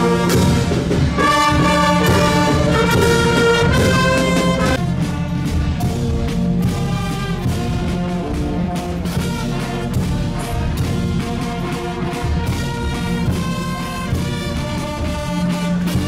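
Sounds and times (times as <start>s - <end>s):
brass instruments playing chords: 0.0s - 16.0s
drum beat: 0.0s - 16.0s.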